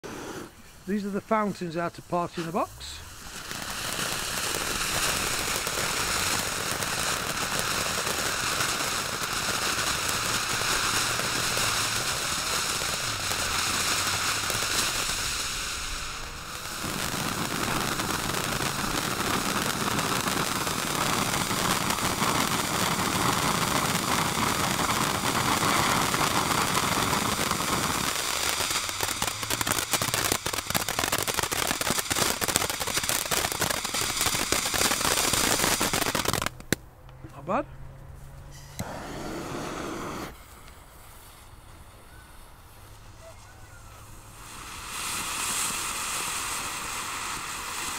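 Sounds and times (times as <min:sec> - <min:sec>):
firework fountains hissing: 0:00.0 - 0:36.8, 0:38.6 - 0:47.9
firework crackling: 0:00.0 - 0:36.9, 0:38.6 - 0:47.9.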